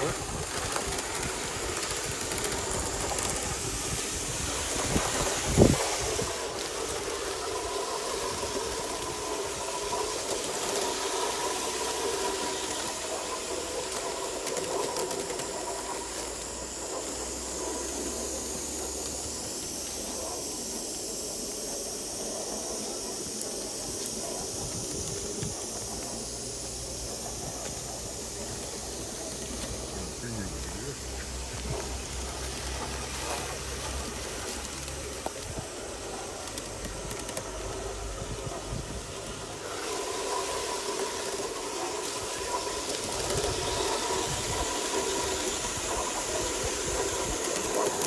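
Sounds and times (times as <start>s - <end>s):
model steam locomotive running: 0.0s - 48.0s
steady hiss of steam: 0.0s - 48.0s.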